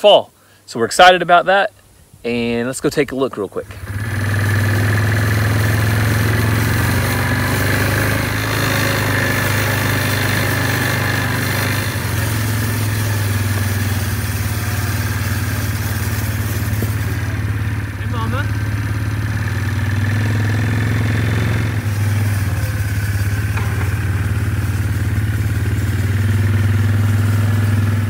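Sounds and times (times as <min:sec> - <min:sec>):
vehicle engine running: 0:03.6 - 0:28.0.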